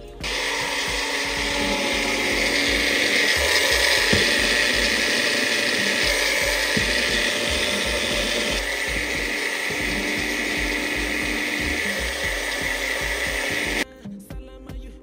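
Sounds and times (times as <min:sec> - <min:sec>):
blender grinding: 0:00.2 - 0:13.8.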